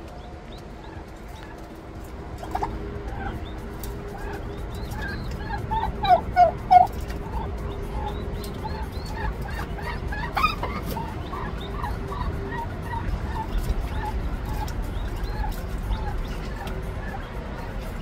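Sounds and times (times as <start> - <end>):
poults peeping: 0.0 - 18.0.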